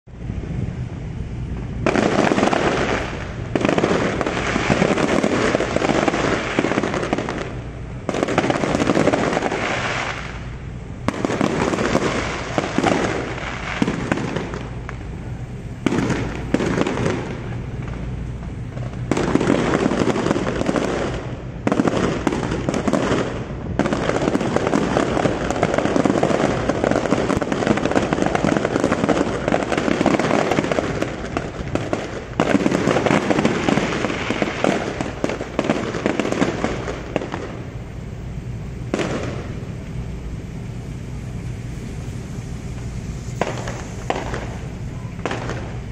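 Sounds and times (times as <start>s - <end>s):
fireworks crackling: 0.1s - 45.9s.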